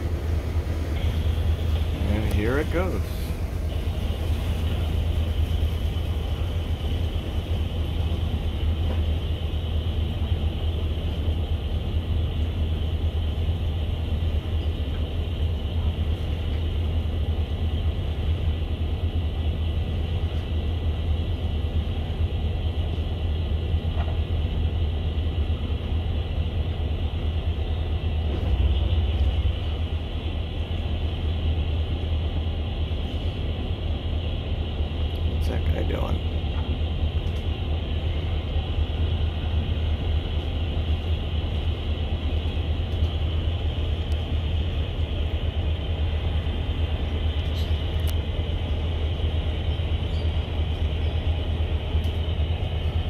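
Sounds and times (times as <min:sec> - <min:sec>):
boat engines rumbling: 0:00.0 - 0:53.0.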